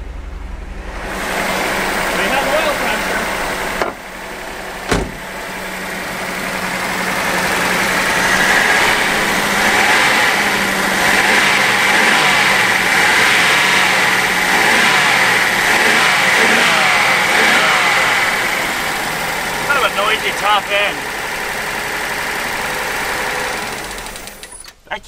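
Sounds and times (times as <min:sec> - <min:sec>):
car engine idling fast: 0:00.0 - 0:24.6.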